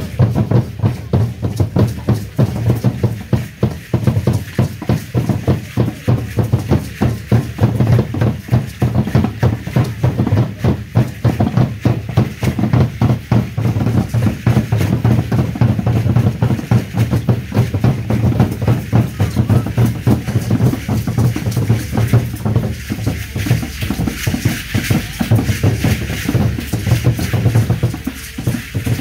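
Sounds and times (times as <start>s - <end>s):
deep drum beating: 0.0s - 29.0s.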